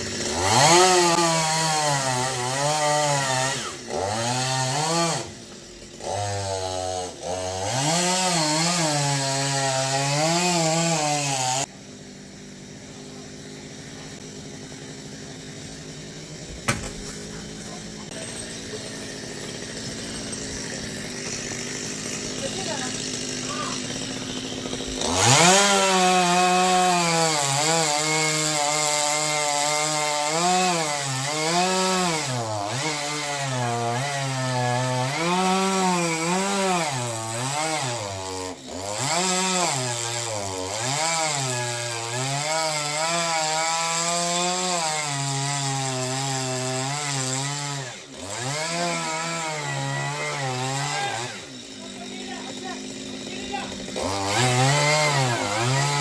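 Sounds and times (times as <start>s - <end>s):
chainsaw cutting into tree: 0.0s - 56.0s.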